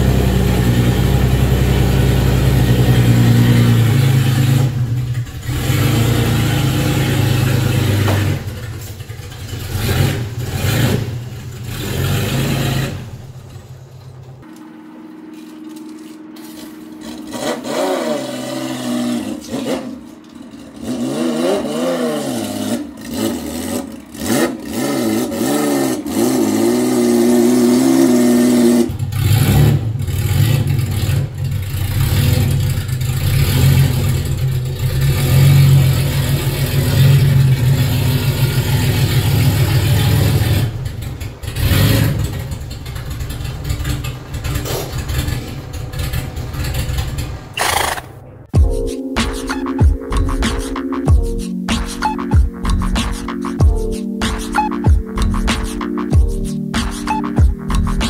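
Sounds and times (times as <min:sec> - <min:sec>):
car engine revving: 0:00.0 - 0:15.6, 0:16.2 - 0:48.6.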